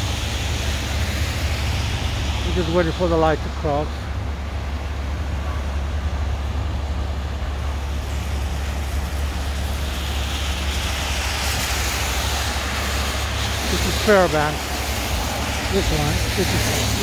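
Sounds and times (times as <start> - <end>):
street traffic rumble: 0.0 - 17.0
tyre hiss of approaching vehicle: 0.0 - 17.0.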